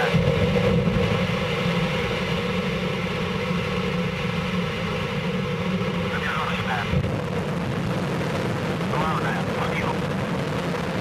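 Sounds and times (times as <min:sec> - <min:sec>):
rocket engines roaring: 0:00.0 - 0:11.0.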